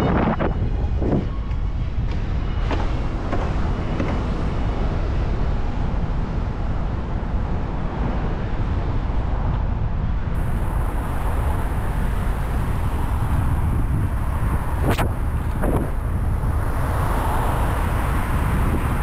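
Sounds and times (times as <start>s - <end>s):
road noise: 0.0s - 19.0s
traffic going by: 0.0s - 19.0s
wind on microphone: 0.0s - 19.0s.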